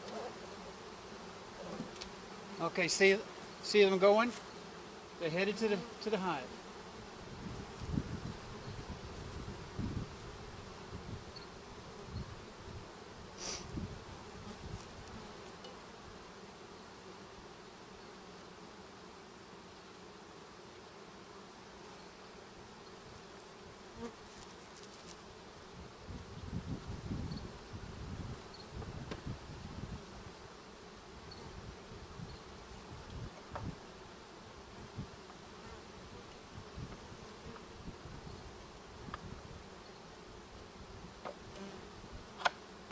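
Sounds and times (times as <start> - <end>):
bees buzzing: 0.0 - 42.9.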